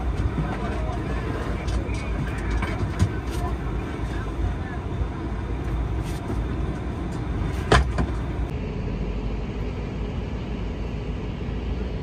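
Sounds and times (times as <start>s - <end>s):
steady hum: 0.0s - 12.0s
turboprop airliner rumble: 0.0s - 12.0s.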